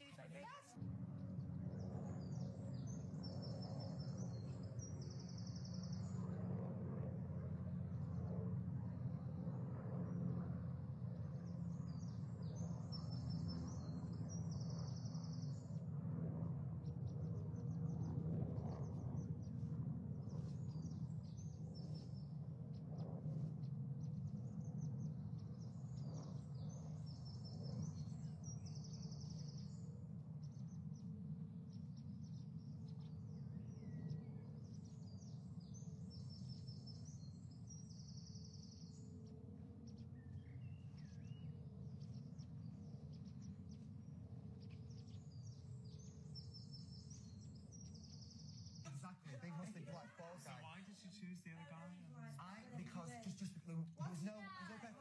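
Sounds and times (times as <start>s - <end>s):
birds chirping: 0.0s - 6.5s, 11.0s - 15.9s, 16.8s - 55.0s.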